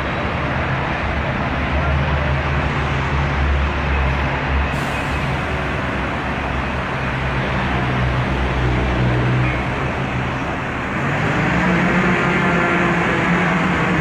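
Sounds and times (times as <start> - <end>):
loud machinery noise: 2.2 - 14.0.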